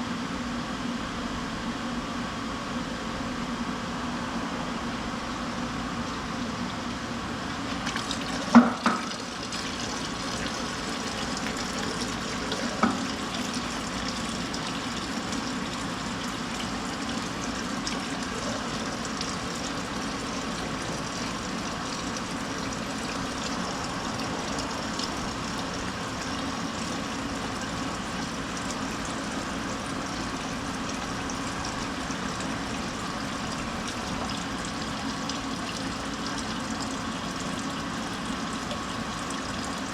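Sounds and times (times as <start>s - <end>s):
oil draining into container: 6.1s - 39.9s.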